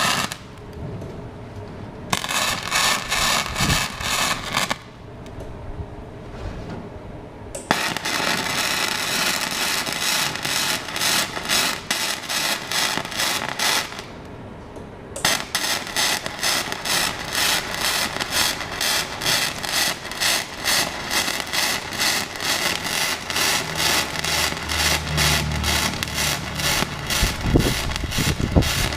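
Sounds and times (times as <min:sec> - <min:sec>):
welding arc crackling: 0:00.0 - 0:00.7, 0:02.1 - 0:05.0, 0:07.6 - 0:14.2, 0:15.2 - 0:28.9.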